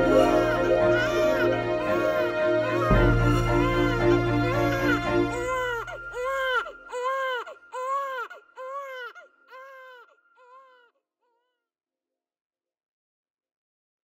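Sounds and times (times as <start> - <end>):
newborn baby crying: 0.0 - 11.5.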